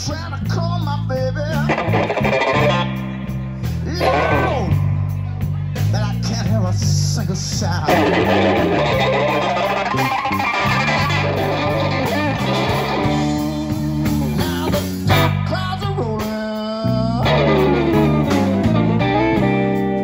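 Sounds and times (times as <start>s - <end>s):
drums: 0.0s - 20.0s
electric bass: 0.0s - 20.0s
electric guitar lead lines: 0.9s - 20.0s.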